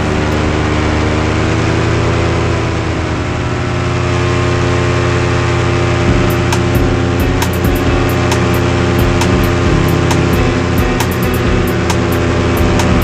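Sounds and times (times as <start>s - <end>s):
engine and propeller drone: 0.0s - 13.0s.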